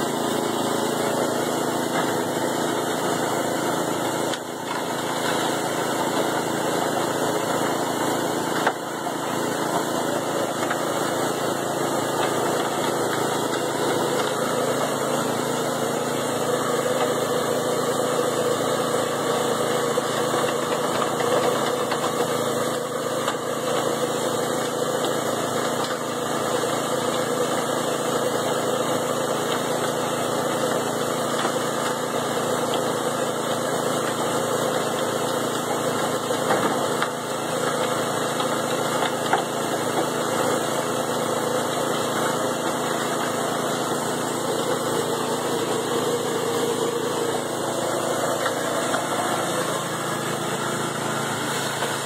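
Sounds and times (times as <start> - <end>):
cement mixer engine running: 0.0 - 52.0.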